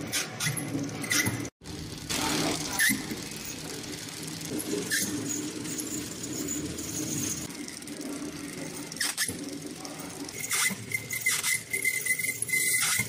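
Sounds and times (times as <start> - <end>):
packing machine humming: 0.3 - 13.0.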